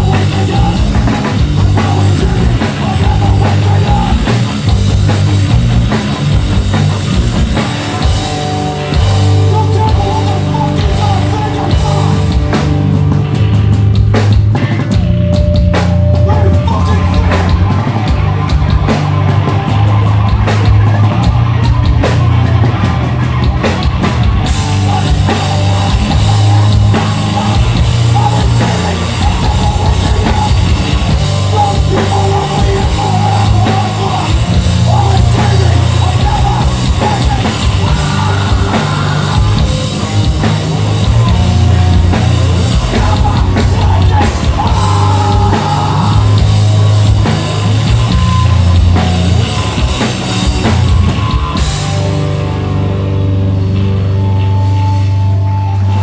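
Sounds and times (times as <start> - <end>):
bass guitar: 0.0 - 56.0
distorted guitars: 0.0 - 56.0
drum kit: 0.0 - 56.0.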